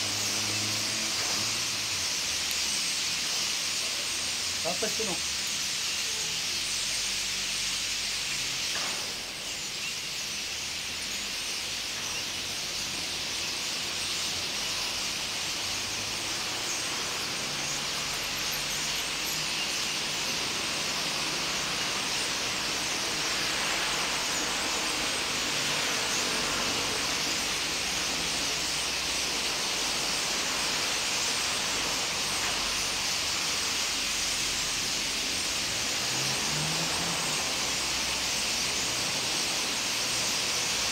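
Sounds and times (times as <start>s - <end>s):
flock of birds calling: 0.0s - 40.9s.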